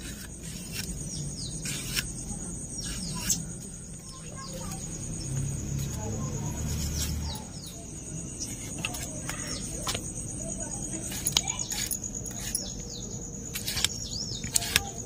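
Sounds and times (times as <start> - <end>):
birds chirping: 0.0 - 15.0
insect trilling: 0.0 - 15.0.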